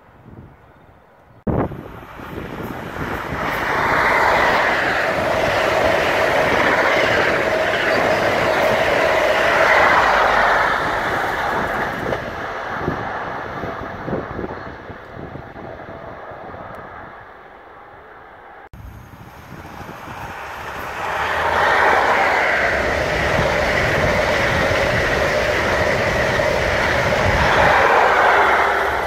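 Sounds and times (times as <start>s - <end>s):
passenger train passing: 1.4s - 29.0s.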